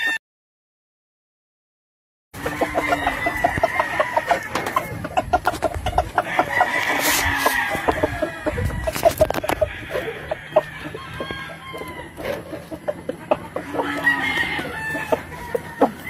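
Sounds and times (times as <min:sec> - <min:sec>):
chickens clucking: 0:02.4 - 0:16.0.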